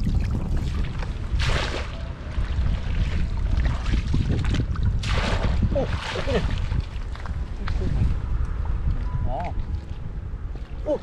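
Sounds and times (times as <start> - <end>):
steady low rumble: 0.0 - 11.0
water splashing and sloshing: 0.0 - 11.0.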